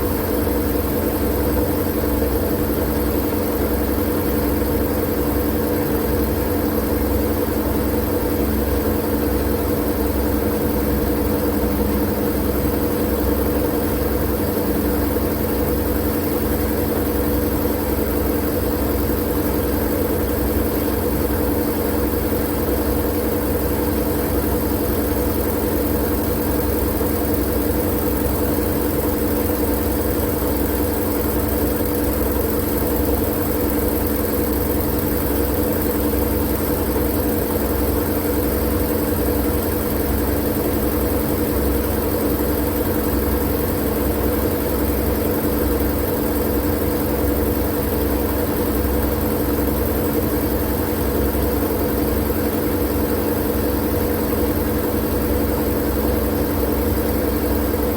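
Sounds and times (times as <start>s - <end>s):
low constant hum: 0.0s - 57.9s.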